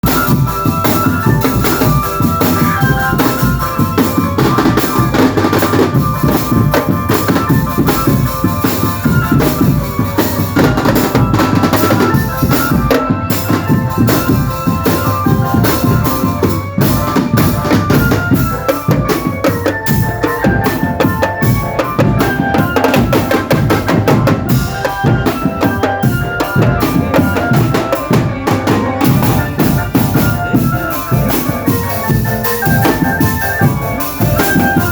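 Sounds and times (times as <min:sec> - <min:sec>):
melody of pitched notes: 0:00.0 - 0:34.9
snare and bass drums: 0:00.0 - 0:34.9.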